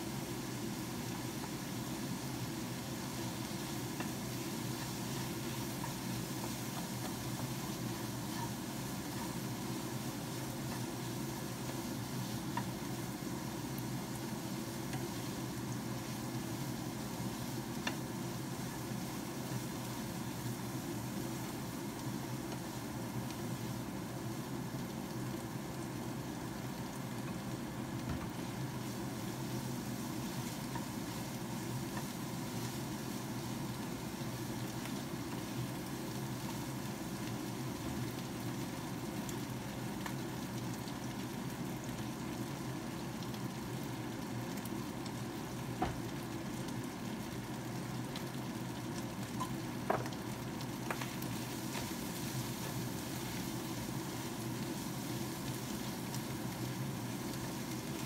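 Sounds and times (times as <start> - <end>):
vegetables sizzling in frying pan: 0.0 - 58.0.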